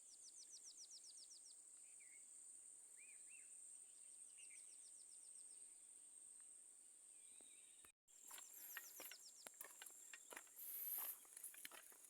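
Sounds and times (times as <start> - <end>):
bird chirping: 0.0 - 2.3, 2.9 - 5.9, 7.1 - 12.0
insects droning: 1.4 - 12.0.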